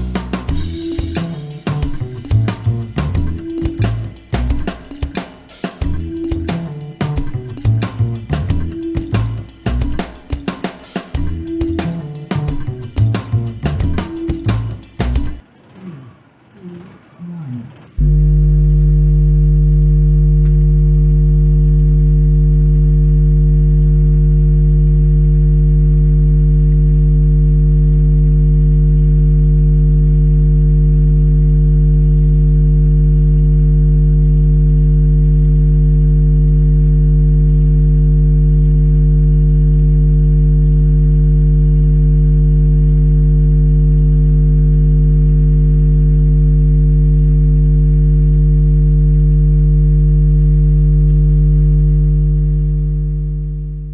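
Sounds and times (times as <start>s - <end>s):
subwoofer bass test tone: 0.0s - 4.7s, 5.8s - 10.0s, 11.2s - 15.4s, 18.0s - 53.9s.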